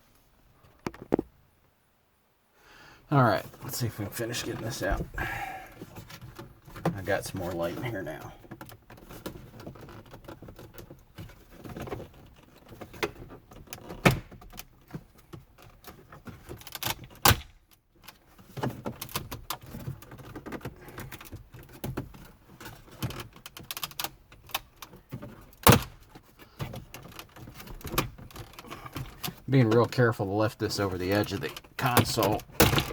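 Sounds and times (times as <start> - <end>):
plastic rattles and knocks: 0.7 - 1.3, 4.2 - 30.0, 30.6 - 32.9.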